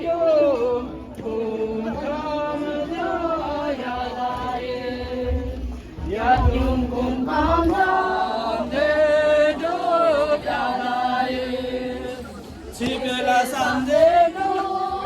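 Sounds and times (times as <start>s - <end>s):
voices singing chant-like song: 0.0s - 15.0s.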